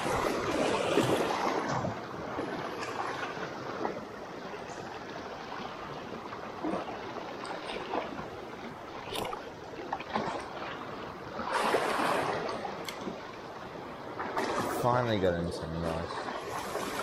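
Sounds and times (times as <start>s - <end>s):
water lapping over rocks: 0.0s - 17.0s.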